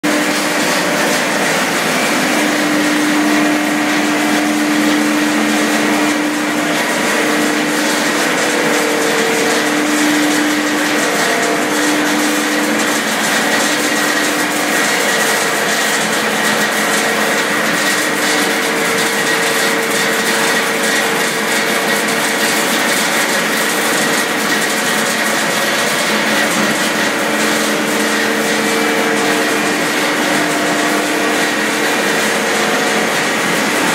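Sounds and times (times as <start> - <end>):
machine hums: 0.0 - 33.9
pellet mill machine running: 0.0 - 33.9.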